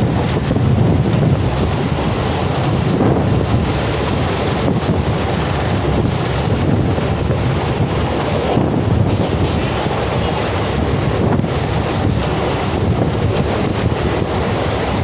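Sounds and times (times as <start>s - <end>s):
train carriage rumbling: 0.0s - 15.0s
wheels clicking over rails: 0.0s - 15.0s.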